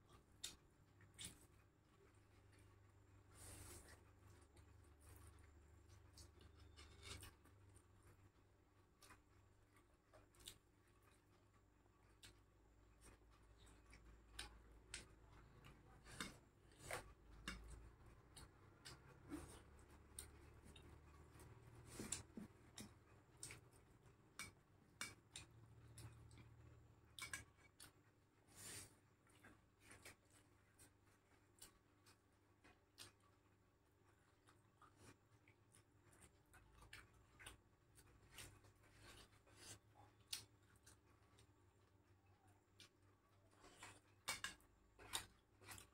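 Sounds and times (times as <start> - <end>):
eating by hand clicks and smacks: 0.0 - 45.9.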